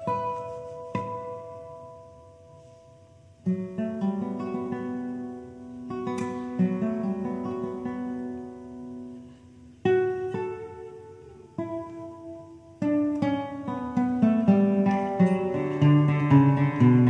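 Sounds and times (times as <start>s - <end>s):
classical guitar plucked notes: 0.0s - 17.0s.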